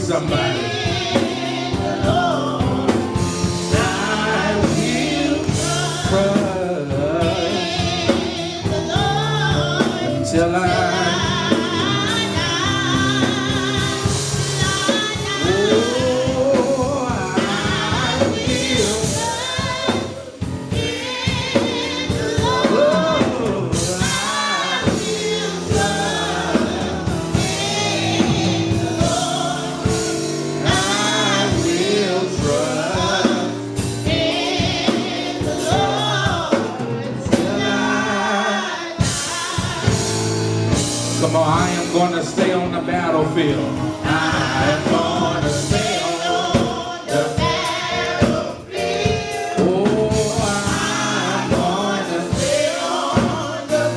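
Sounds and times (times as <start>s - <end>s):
drums: 0.0s - 53.9s
gospel singers: 0.0s - 53.9s
keyboard: 0.0s - 53.9s.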